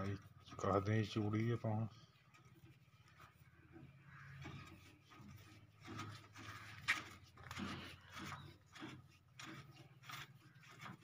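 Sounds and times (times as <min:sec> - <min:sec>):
metal-on-metal rubbing and scraping: 0:00.0 - 0:11.0.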